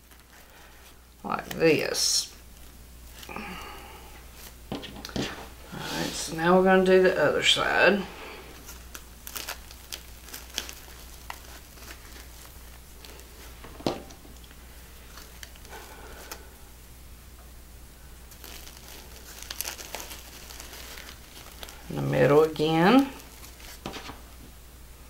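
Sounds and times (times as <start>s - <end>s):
mesh crinkling and rustling: 0.0s - 7.0s, 7.9s - 16.4s, 18.3s - 24.4s.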